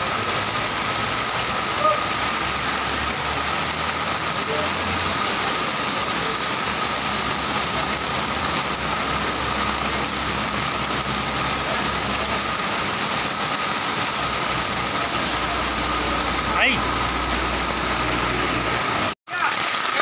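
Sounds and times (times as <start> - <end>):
heavy rain on flooded street: 0.0 - 20.0.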